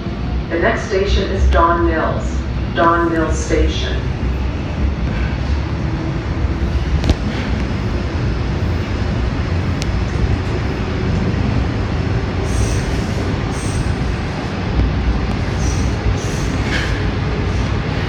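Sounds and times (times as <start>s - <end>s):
subway train rumbling in tunnel: 0.0s - 18.0s.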